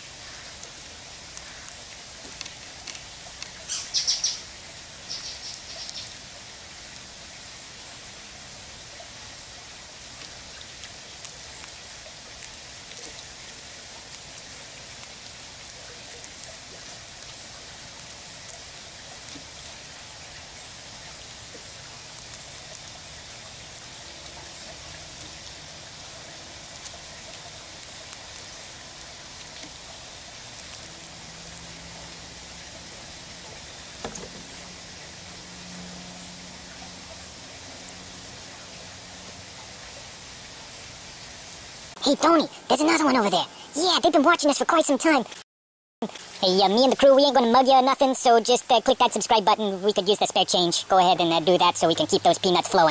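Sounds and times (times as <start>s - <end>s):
squirrel cracking and chewing seeds: 0.0s - 40.8s, 42.1s - 45.2s, 46.1s - 52.9s
steady outdoor hiss: 0.0s - 45.4s, 46.0s - 52.9s.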